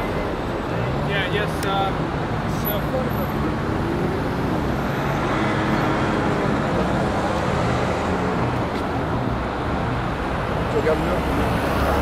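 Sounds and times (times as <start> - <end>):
car and bus engines running: 0.0 - 12.0
tyres on the road: 0.0 - 12.0.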